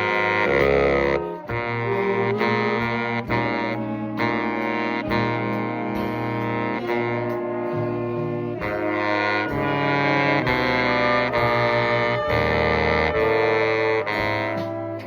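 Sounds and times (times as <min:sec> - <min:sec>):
bass line: 0:00.0 - 0:15.0
jazz band playing: 0:00.0 - 0:15.0.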